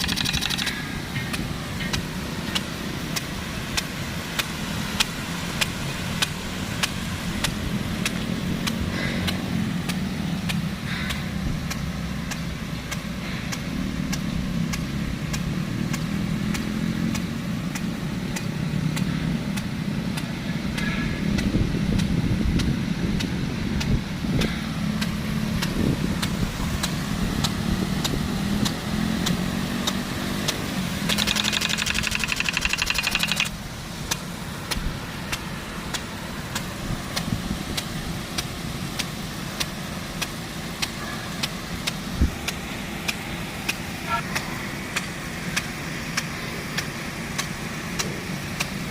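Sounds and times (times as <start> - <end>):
sprinkler low drone: 0.0 - 48.9
sprinkler sharp clicks: 0.0 - 48.9.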